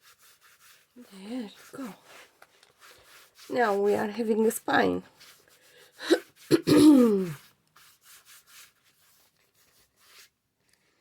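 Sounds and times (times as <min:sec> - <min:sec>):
hands rubbing paper and fabric: 0:00.0 - 0:10.8.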